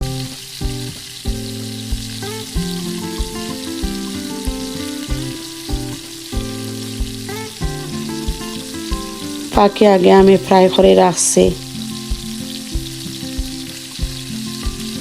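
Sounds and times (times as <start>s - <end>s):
background music with steady beat: 0.0s - 15.0s
food sizzling in hot oil: 0.0s - 15.0s.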